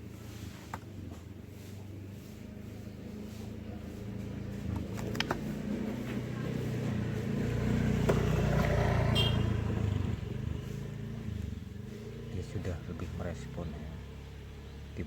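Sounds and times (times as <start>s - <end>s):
vehicle engine passing by: 1.5s - 15.0s.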